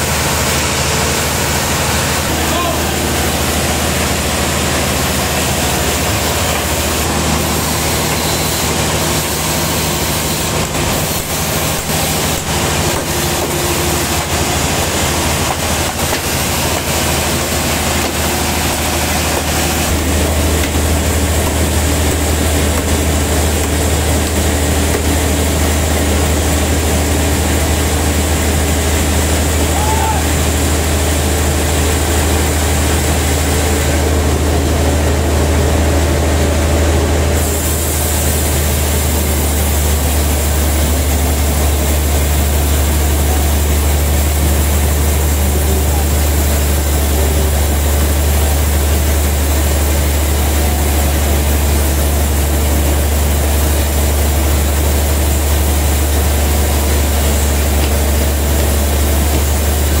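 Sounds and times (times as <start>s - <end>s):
band sawmill machinery drone: 0.0s - 60.0s.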